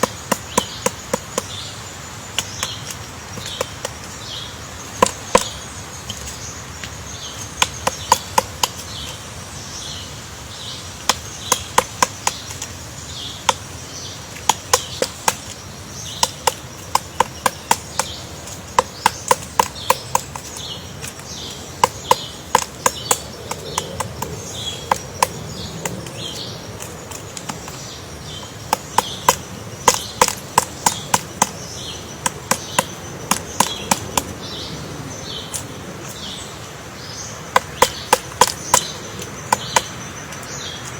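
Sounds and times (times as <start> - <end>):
high chirps or insect calls: 0.0 - 40.9
woodpecker pecking wood: 0.0 - 40.9.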